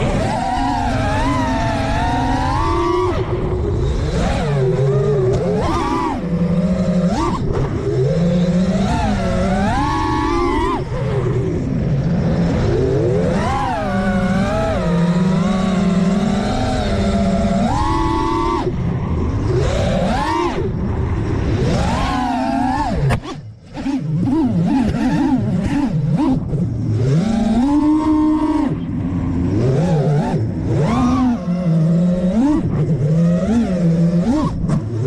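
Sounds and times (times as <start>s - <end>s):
quadcopter motors whining: 0.0s - 35.0s.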